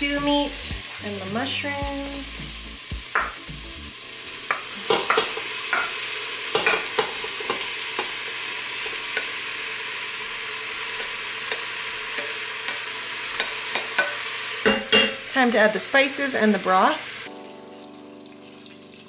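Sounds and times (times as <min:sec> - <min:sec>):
onions and garlic sizzling: 0:00.0 - 0:19.0.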